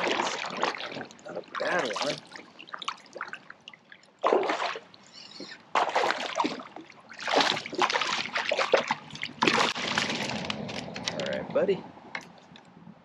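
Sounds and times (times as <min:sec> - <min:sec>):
fish splashing in water: 0:00.0 - 0:10.8.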